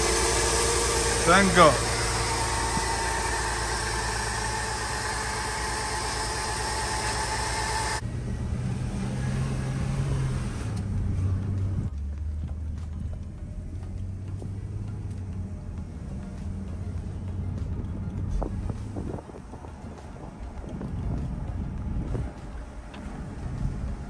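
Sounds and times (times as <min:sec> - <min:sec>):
car engine idling: 0:00.0 - 0:08.8, 0:10.5 - 0:24.0
muffled engine while driving: 0:00.0 - 0:24.0
road noise: 0:00.0 - 0:24.0.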